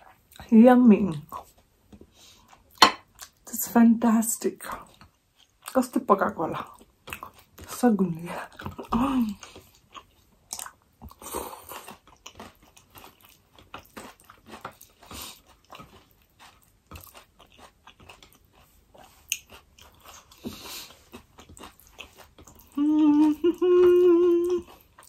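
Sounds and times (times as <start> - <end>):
person chewing and crunching food: 0.0 - 3.5, 4.6 - 25.0.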